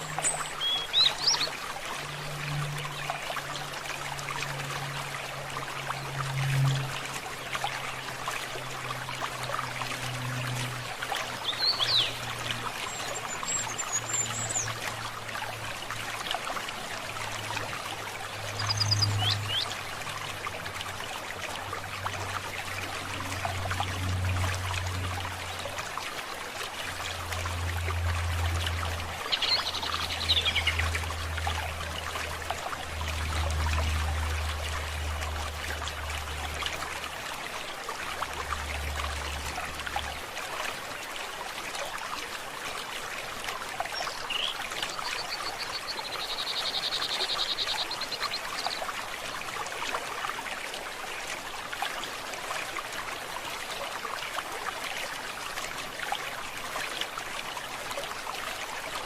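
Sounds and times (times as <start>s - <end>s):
stream running: 0.0s - 59.0s.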